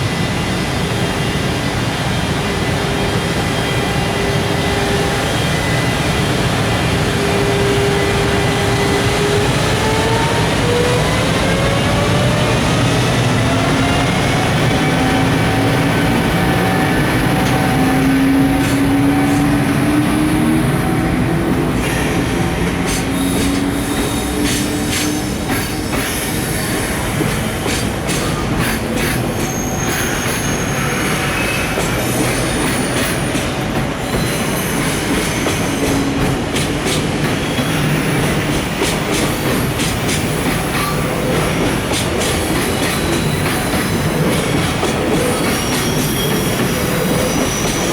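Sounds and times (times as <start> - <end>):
train rolling noise: 0.0 - 47.9
train wheels squealing: 0.1 - 47.9
train wheels clicking over rail joints: 8.8 - 47.9.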